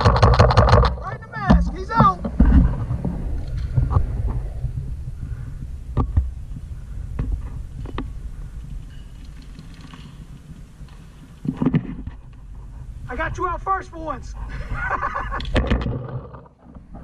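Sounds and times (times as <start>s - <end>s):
low steady rumble: 0.0s - 15.6s.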